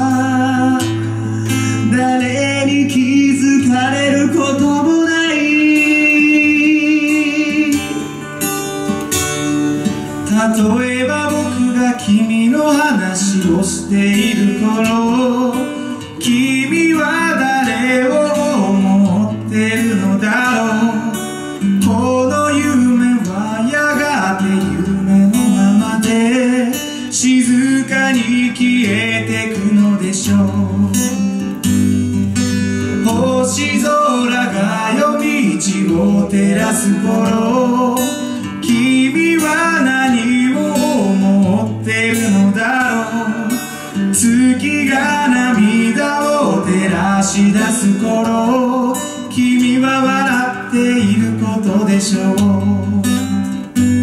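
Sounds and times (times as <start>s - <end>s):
man singing into a microphone: 0.0s - 8.6s, 10.0s - 31.8s, 32.4s - 54.0s
acoustic guitar strummed: 0.0s - 54.0s.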